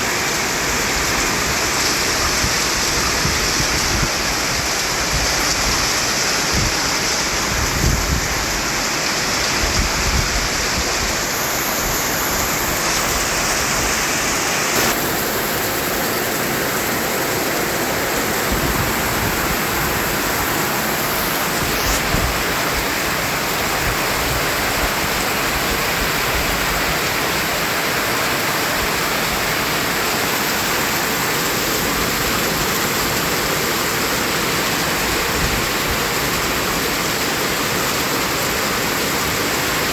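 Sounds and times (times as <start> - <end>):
white noise hiss: 0.0 - 4.6, 6.3 - 39.9.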